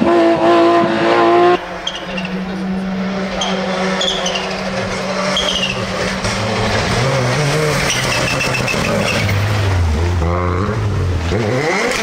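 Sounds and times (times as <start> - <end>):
rally car engine at speed: 0.0 - 12.0.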